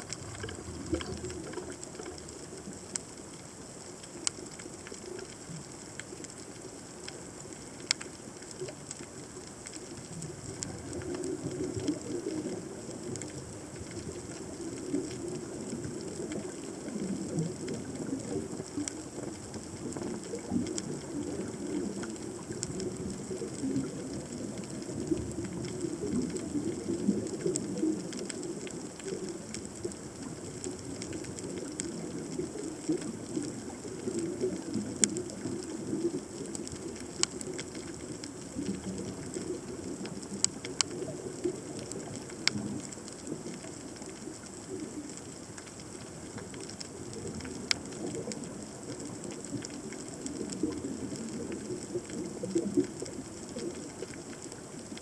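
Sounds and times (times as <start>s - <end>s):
underwater burbling water: 0.0s - 55.0s.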